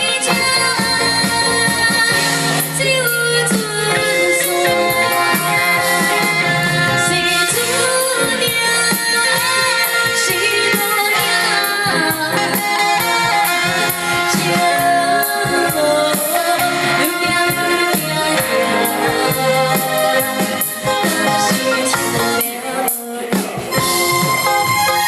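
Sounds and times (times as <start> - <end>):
woman singing: 0.0 - 24.4
live band pop music: 0.0 - 25.0.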